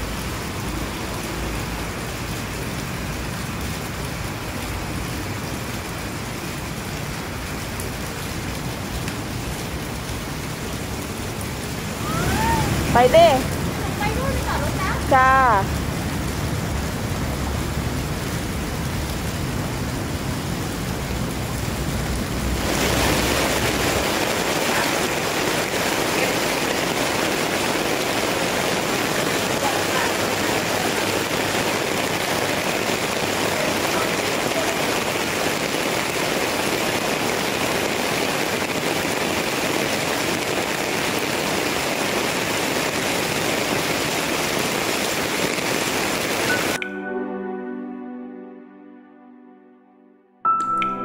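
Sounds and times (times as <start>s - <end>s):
heavy rain falling: 0.0s - 46.8s.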